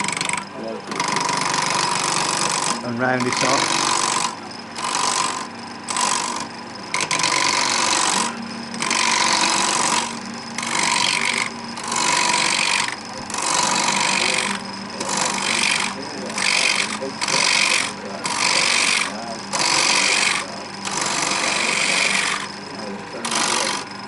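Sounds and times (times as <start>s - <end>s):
gouge scraping wood on lathe: 0.0s - 24.0s
lathe humming: 0.0s - 24.0s.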